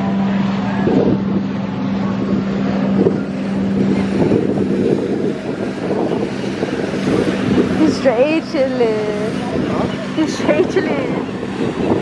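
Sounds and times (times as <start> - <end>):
road noise: 0.0 - 12.0
vehicle engine hum: 0.0 - 12.0
wind on microphone: 0.0 - 12.0.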